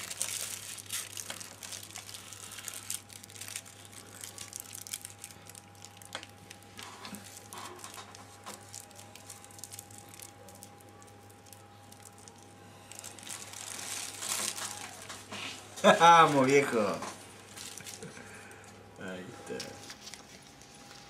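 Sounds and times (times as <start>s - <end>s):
faint steady hum: 0.0s - 21.0s
rolling paper crinkling: 0.0s - 21.0s.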